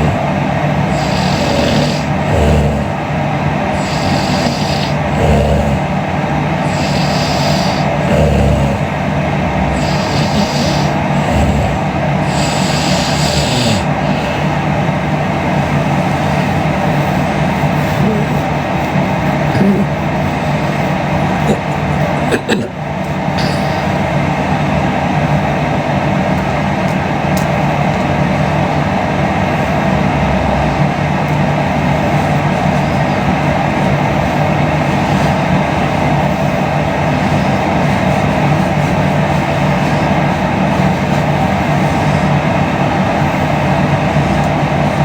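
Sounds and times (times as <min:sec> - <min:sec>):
droning rumble: 0:00.0 - 0:45.0.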